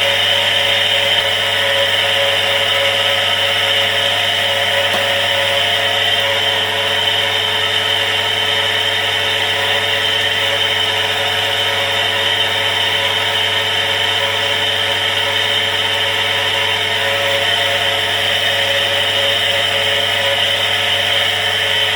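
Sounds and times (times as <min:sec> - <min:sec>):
electric water pump running: 0:00.0 - 0:21.9.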